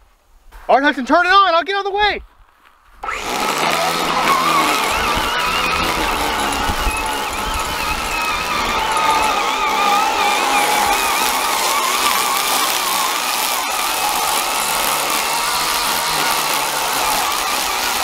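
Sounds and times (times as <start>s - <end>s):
toy tractor electric motors whining: 3.0s - 18.0s.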